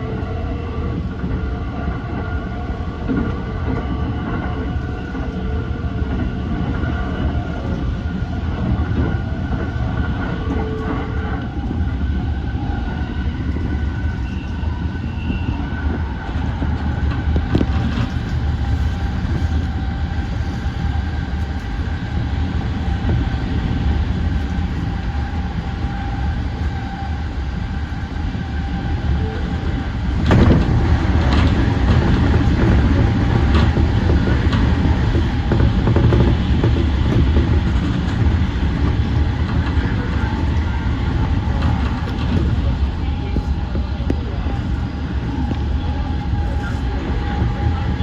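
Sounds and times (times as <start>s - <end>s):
wheels rumbling on rail: 0.0s - 48.0s.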